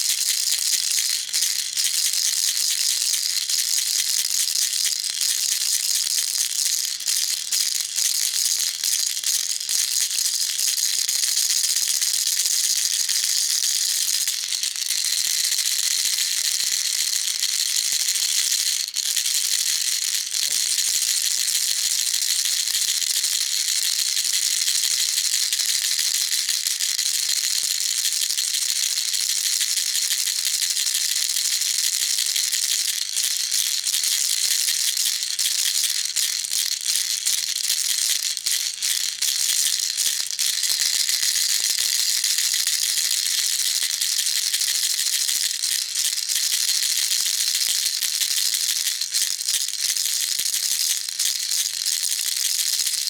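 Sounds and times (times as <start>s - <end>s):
baby rattle shaking: 0.1s - 53.0s.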